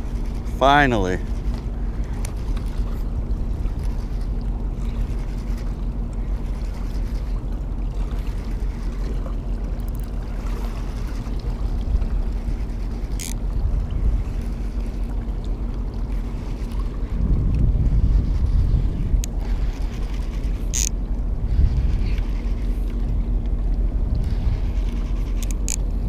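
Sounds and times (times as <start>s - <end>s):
low rumble with hum: 0.0s - 26.0s.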